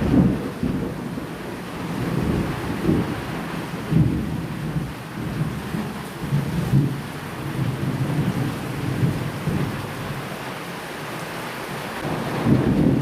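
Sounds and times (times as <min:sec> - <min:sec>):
thunder rumbling: 0:00.0 - 0:10.5, 0:11.9 - 0:13.0
steady rain: 0:00.0 - 0:13.0.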